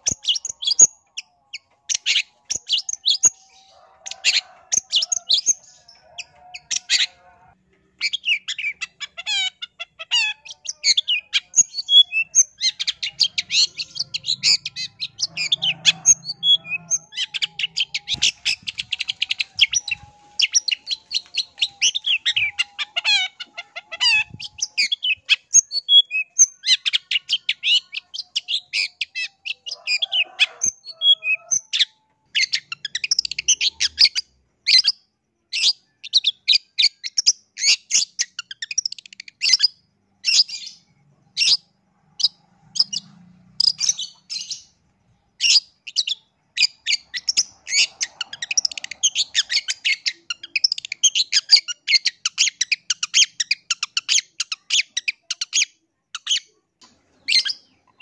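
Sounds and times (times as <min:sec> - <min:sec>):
bird chattering song: 0:00.0 - 0:07.2, 0:07.8 - 0:35.0, 0:35.6 - 0:44.8, 0:45.4 - 0:58.0.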